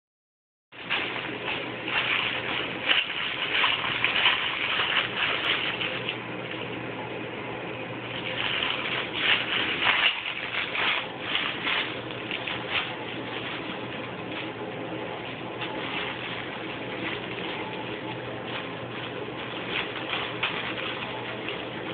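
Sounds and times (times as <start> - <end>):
crinkle book rustling: 0.8 - 6.7, 8.1 - 21.9.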